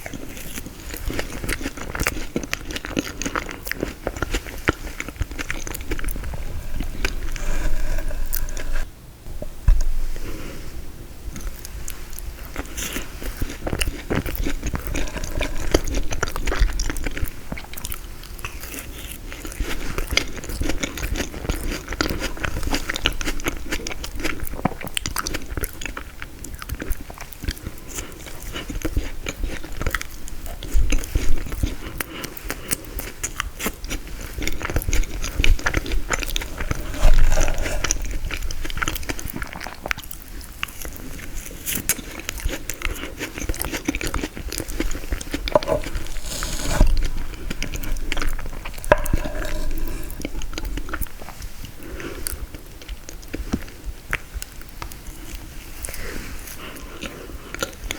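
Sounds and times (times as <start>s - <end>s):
chewing frozen dessert: 0.0s - 8.9s, 11.3s - 57.9s.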